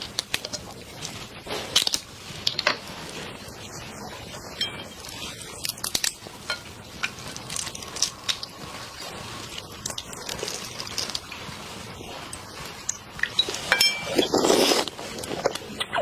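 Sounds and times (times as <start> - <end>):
wet squishing: 0.0 - 16.0.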